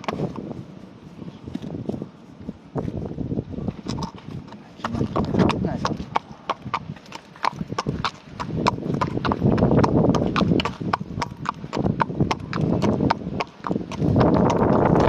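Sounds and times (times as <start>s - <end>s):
horse hooves clopping: 0.0s - 15.0s.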